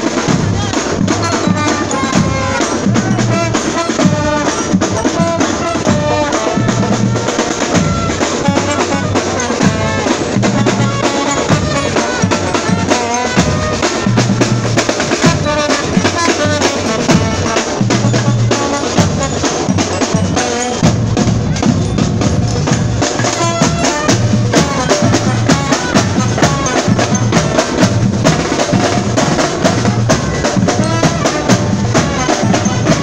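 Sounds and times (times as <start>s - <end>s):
snare and bass drums march beat: 0.0s - 33.0s
trombones and tuba playing: 0.0s - 33.0s.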